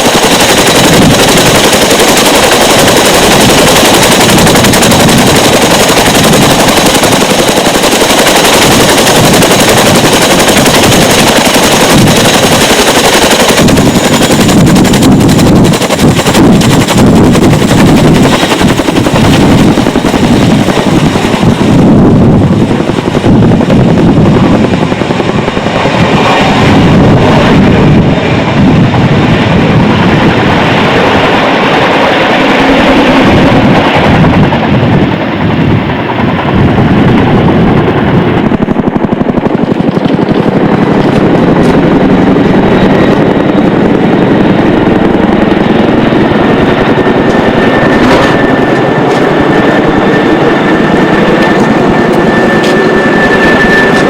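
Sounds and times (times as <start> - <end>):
helicopter rotor chop and engine: 0.0 - 54.0.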